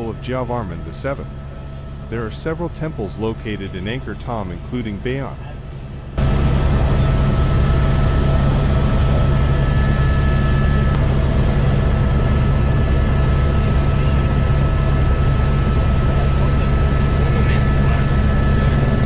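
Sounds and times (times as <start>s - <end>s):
faint steady whines: 0.0s - 19.0s
helicopter engine and rotor drone: 0.0s - 19.0s.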